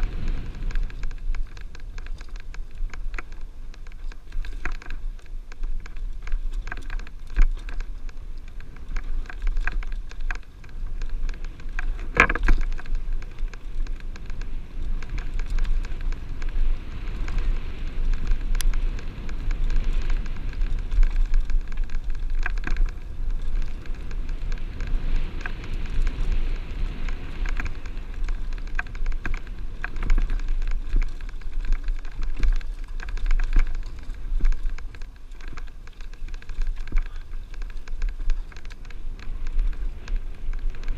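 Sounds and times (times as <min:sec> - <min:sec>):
bike rattling clicks and knocks: 0:00.0 - 0:40.9
wind rumbling on microphone: 0:00.0 - 0:40.9.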